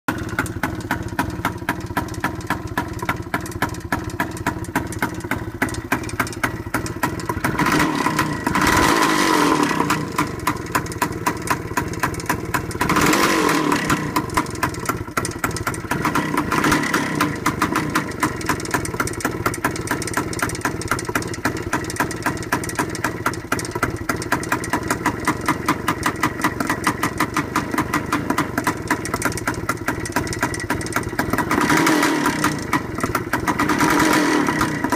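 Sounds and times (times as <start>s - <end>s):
two-stroke motorcycle engine revving: 0.1s - 34.9s.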